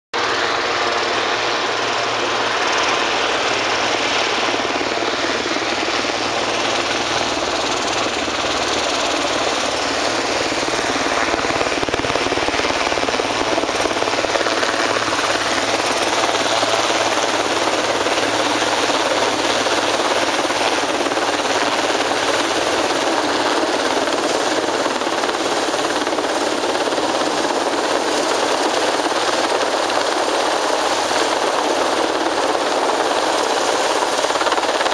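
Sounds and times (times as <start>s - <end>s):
helicopter rotor and turbine: 0.2s - 34.9s.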